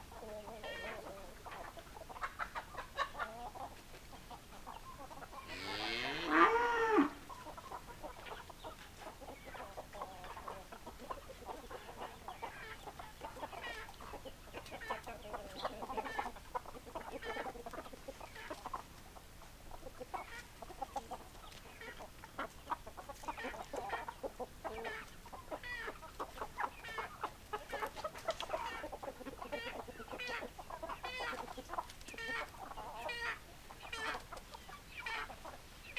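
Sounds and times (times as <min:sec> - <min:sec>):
hens clucking: 0:00.0 - 0:35.9.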